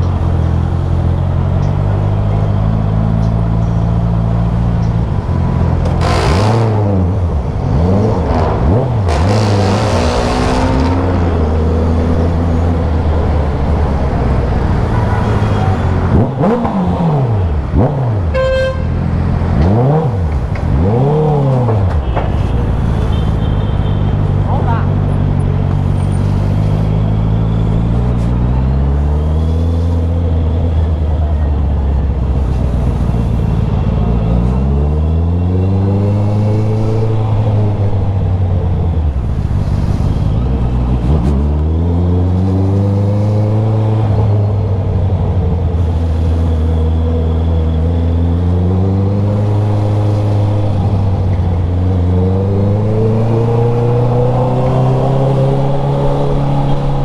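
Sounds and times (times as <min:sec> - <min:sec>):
motorcycle engine accelerating: 0:00.0 - 0:18.4, 0:24.1 - 0:57.0.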